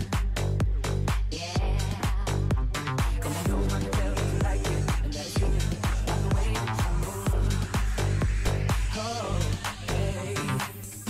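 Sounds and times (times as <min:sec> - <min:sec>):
deep bass line: 0:00.0 - 0:10.9
music with steady beat: 0:00.0 - 0:11.0.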